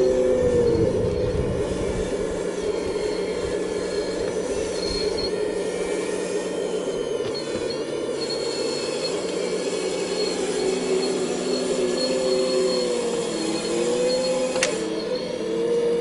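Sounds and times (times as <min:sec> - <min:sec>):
thin high squeal: 0:00.0 - 0:15.8
excavator diesel engine whining: 0:00.0 - 0:16.0.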